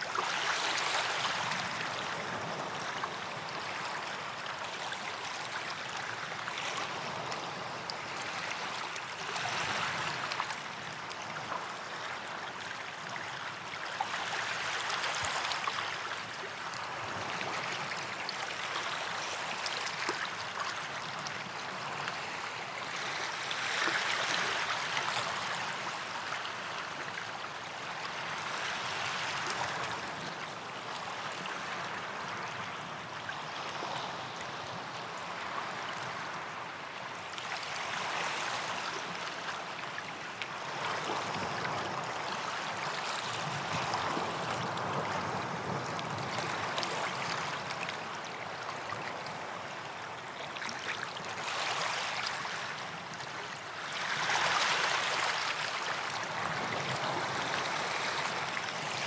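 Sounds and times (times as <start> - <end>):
small waves washing onto beach: 0.0 - 59.0.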